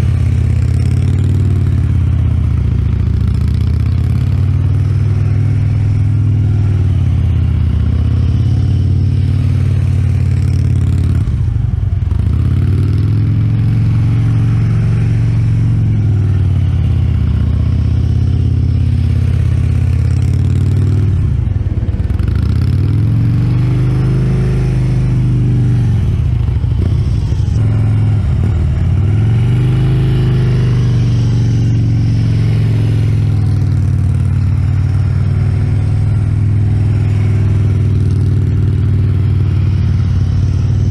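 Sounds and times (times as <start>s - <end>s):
motorcycle engine running slowly: 0.0s - 40.9s.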